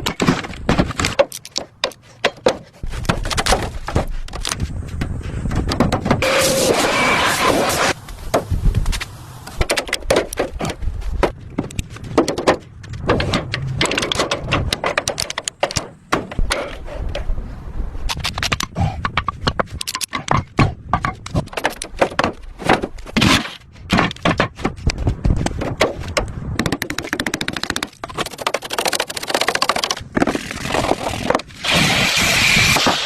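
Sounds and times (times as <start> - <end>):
knocks taps and scrapes: 0.0 - 6.2, 8.1 - 17.3, 18.1 - 31.5.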